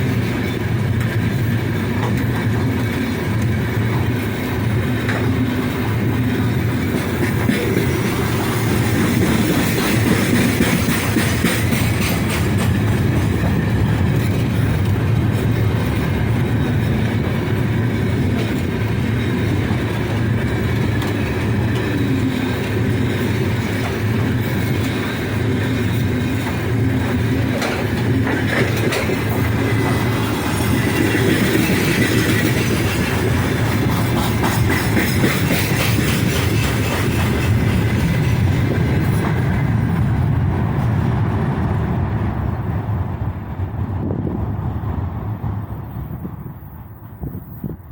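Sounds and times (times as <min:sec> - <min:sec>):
train wheels clacking: 0:00.0 - 0:41.0
train rumble: 0:00.0 - 0:47.9.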